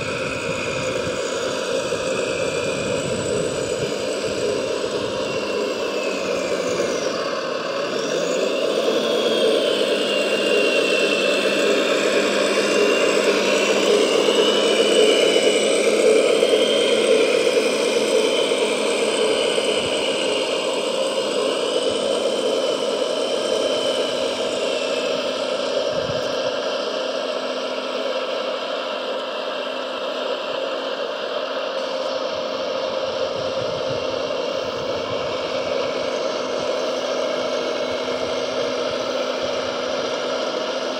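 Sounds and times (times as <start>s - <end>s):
electric gear motors whirring: 0.0s - 40.9s
high motor whine: 0.0s - 40.9s.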